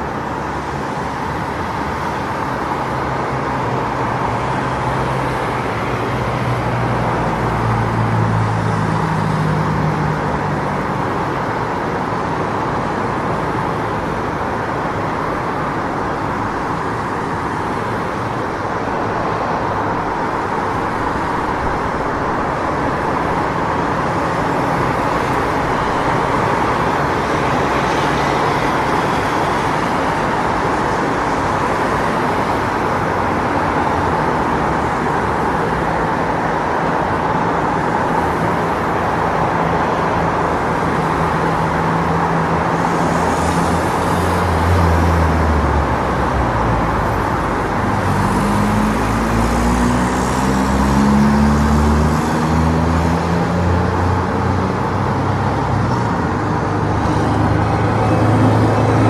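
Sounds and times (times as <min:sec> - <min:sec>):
passing traffic: 0:00.0 - 0:59.0.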